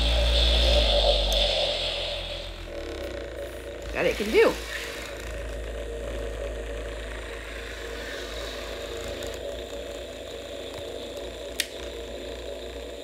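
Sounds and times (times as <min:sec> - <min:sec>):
electronic hum drone: 0:00.0 - 0:13.0.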